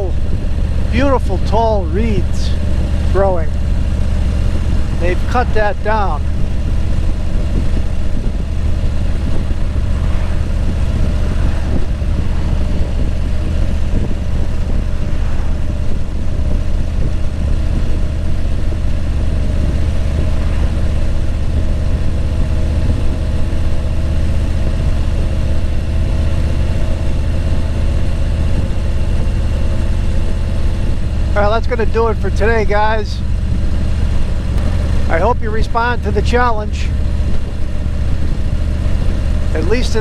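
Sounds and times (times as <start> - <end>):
car driving on a road: 0.0 - 40.0.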